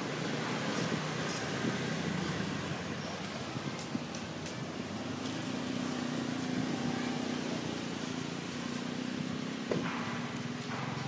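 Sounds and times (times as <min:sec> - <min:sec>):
noisy background: 0:00.0 - 0:11.0.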